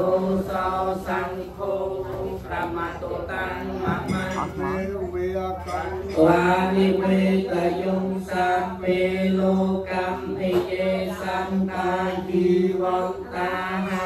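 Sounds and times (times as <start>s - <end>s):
monks chanting together: 0.0s - 14.0s.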